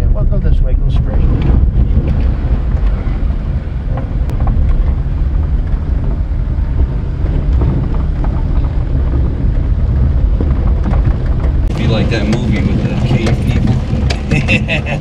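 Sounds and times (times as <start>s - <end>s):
truck engine low rumble: 0.0s - 15.0s.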